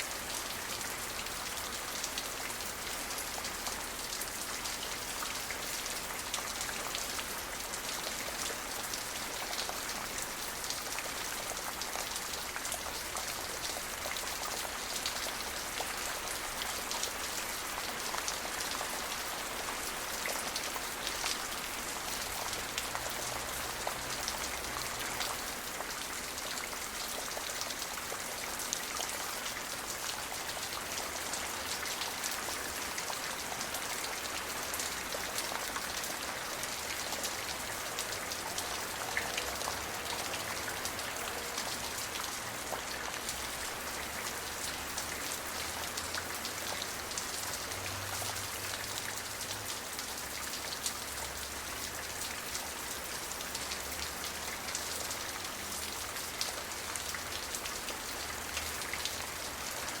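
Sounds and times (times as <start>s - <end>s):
rain pattering on surfaces: 0.0s - 60.0s.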